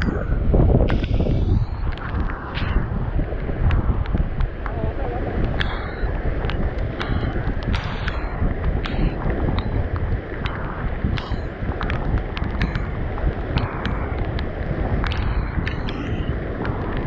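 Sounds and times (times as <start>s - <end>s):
raindrops ticking on microphone: 0.0s - 17.0s
wind buffeting microphone: 0.0s - 17.0s.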